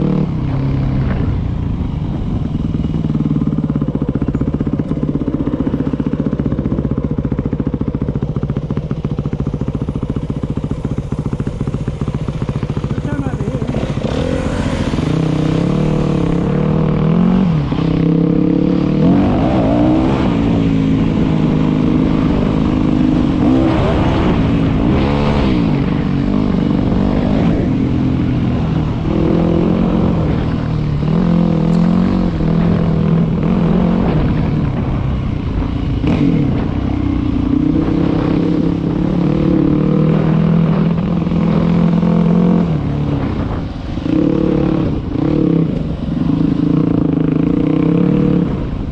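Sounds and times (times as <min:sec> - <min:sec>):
dirt bike engine revving: 0:03.0 - 0:48.8.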